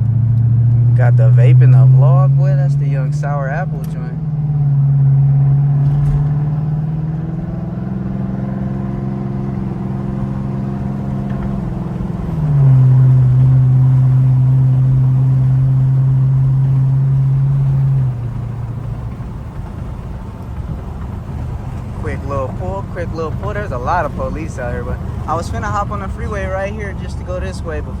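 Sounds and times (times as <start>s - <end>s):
car exhaust droning: 0.0s - 28.0s
road noise: 0.0s - 28.0s.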